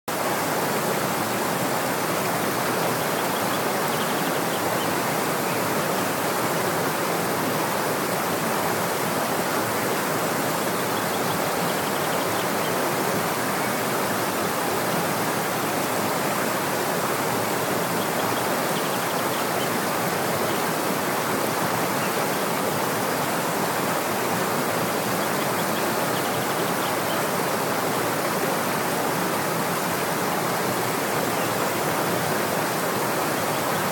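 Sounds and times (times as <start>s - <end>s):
stream rushing over cascades: 0.1s - 33.9s.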